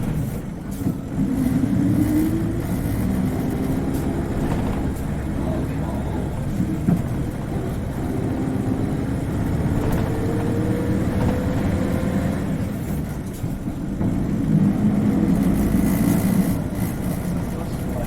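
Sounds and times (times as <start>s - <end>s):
bus diesel engine under load: 0.0s - 18.0s
engine whine: 0.0s - 18.0s.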